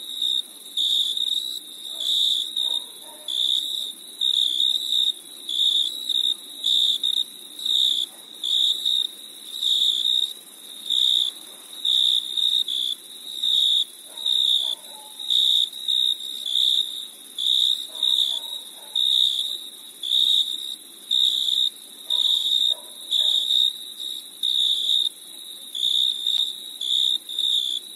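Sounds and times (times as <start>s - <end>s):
cricket chirping: 0.0s - 27.9s
insect trill: 0.1s - 27.9s.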